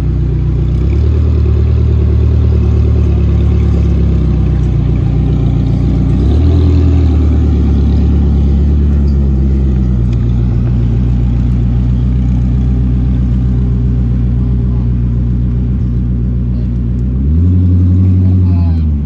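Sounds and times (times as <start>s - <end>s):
car engine running at low speed: 0.0s - 19.0s.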